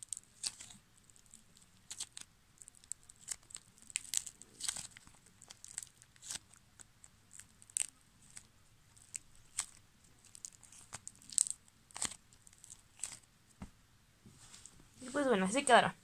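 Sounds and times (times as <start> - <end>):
dried crust crackling: 0.0 - 13.3.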